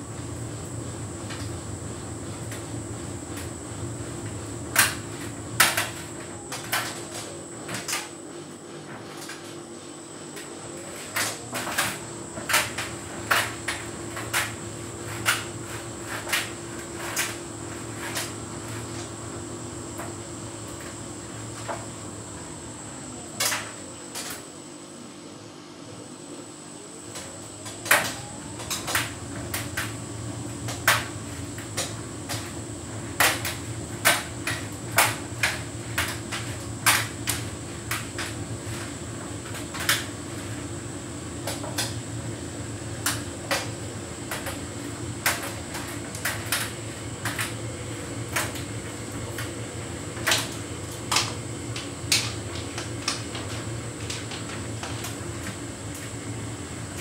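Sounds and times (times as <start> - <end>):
tumble dryer motor hum: 0.0 - 57.0.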